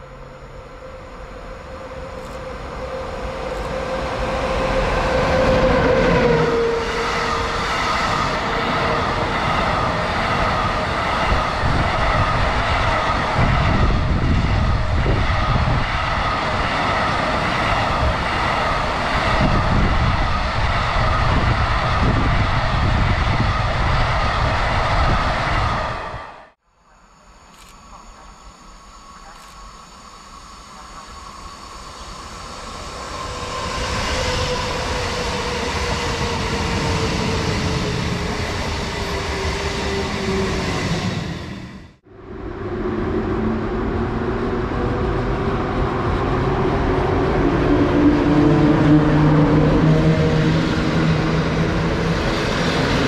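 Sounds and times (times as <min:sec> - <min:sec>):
electric locomotive whine: 0:00.0 - 0:53.0.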